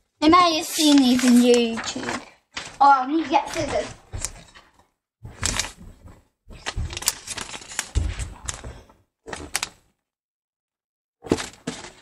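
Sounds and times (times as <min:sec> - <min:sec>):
objects being handled: 0:00.2 - 0:09.9, 0:11.2 - 0:12.0.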